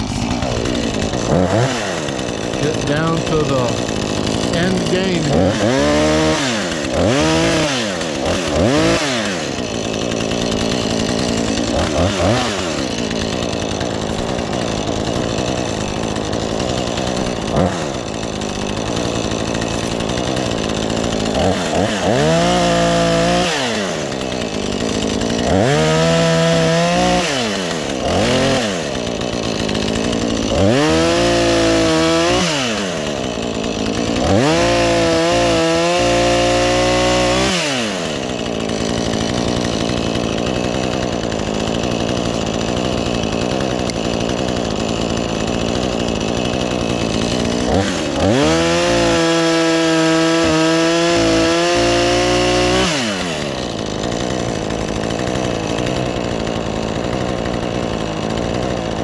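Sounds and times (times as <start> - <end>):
chainsaw revving and idling: 0.0 - 59.0.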